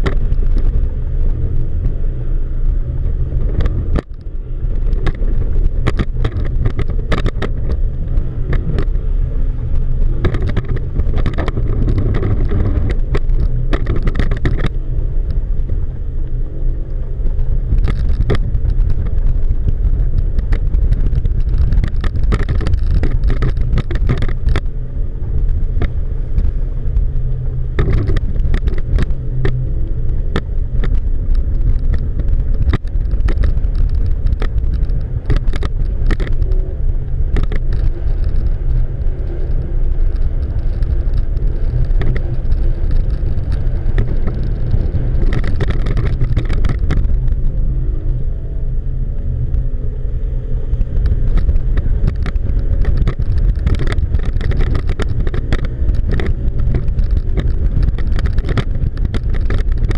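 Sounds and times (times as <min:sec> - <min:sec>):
sharp knocks and pops: 0:00.0 - 0:02.0, 0:03.1 - 0:09.0, 0:09.7 - 0:15.8, 0:16.9 - 0:47.6, 0:50.7 - 0:59.9
outboard motors rumbling: 0:00.0 - 0:59.9.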